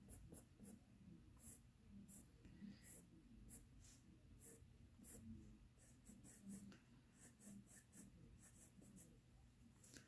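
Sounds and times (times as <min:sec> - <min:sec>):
colored pencil scratching on paper: 0:00.0 - 0:00.8, 0:01.4 - 0:09.2.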